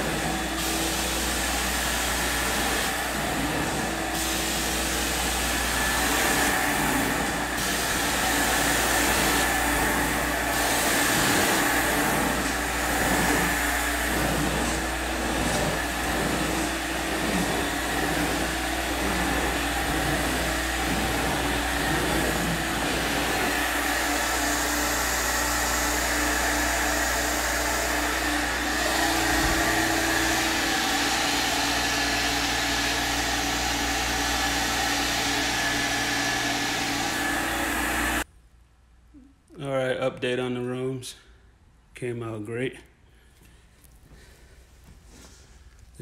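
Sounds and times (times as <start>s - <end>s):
carpet extractor vacuum running: 0.0s - 38.3s.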